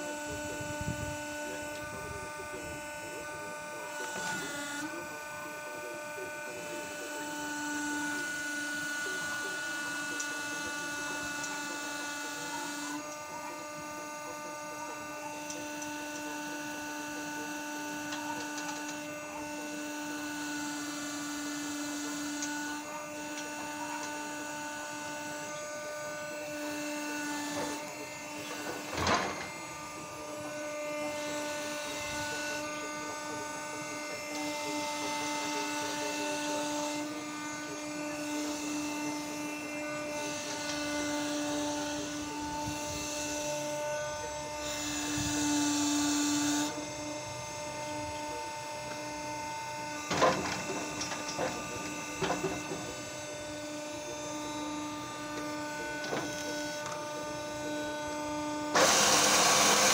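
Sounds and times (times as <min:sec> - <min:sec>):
hydraulic drive whining: 0:00.0 - 0:59.9.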